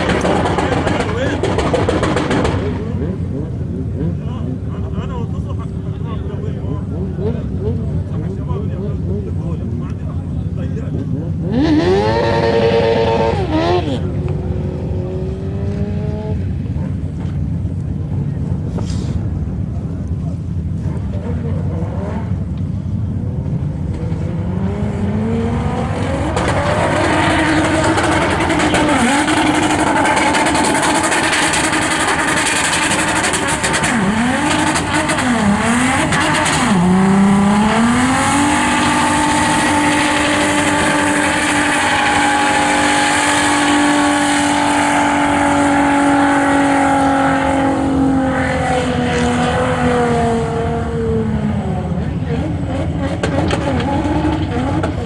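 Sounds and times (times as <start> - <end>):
car engine revving high: 0.0 - 55.0.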